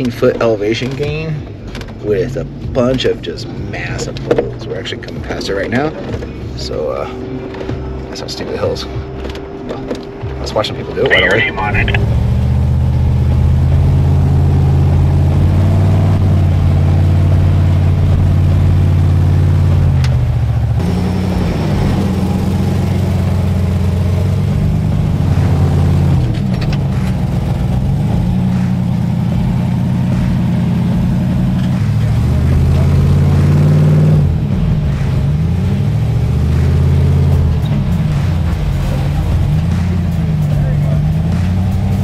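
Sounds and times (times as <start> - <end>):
off-road vehicle engine revving: 0.0 - 42.0.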